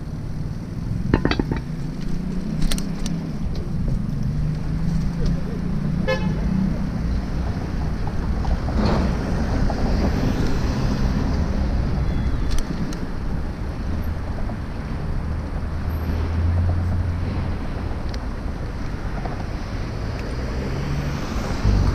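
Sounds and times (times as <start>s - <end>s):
street traffic: 0.0s - 21.9s.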